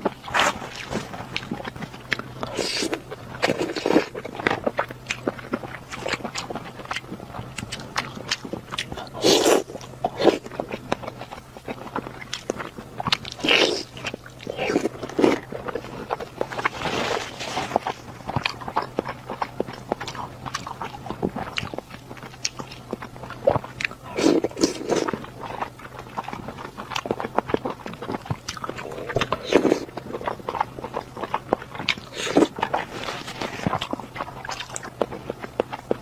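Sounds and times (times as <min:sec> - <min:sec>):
faint low hum: 0:00.0 - 0:36.0
person chewing food: 0:00.0 - 0:36.0.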